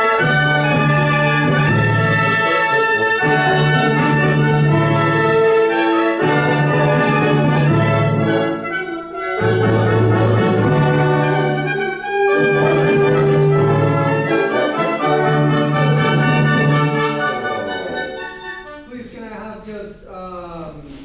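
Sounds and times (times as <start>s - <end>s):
wind and brass ensemble playing: 0.0s - 19.0s.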